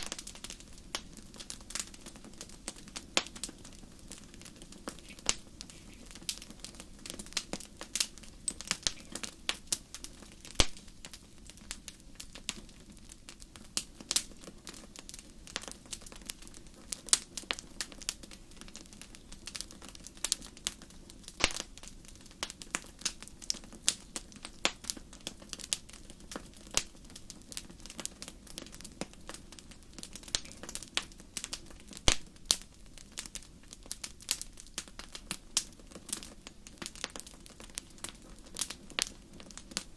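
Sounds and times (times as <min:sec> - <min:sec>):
fire popping and snapping: 0:00.0 - 0:39.9
flames rushing: 0:00.0 - 0:39.9.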